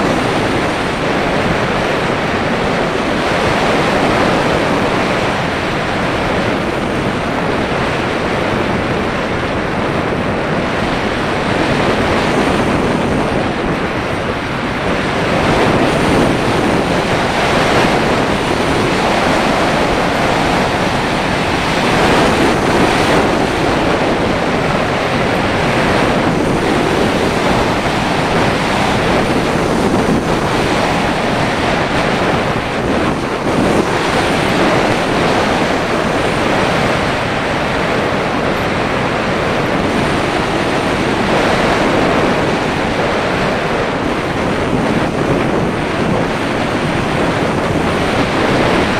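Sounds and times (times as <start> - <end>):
wind rushing on microphone: 0.0 - 48.9.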